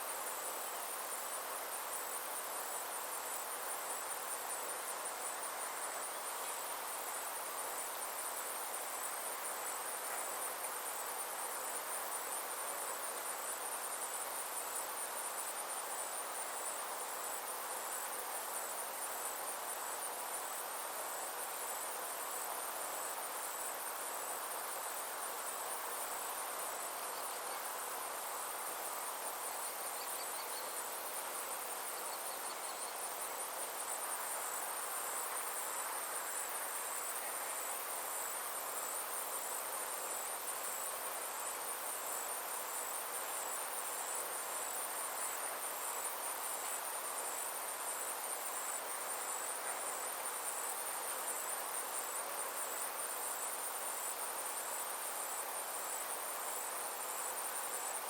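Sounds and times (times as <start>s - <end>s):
insects pulsing trill: 0.0s - 58.0s
soft hiss: 0.0s - 58.0s.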